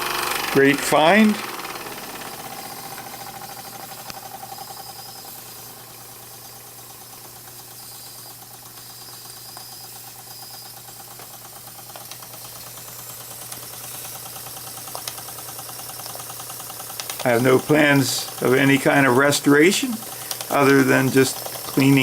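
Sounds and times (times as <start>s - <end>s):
toy steam engine chuffing: 0.0s - 22.0s.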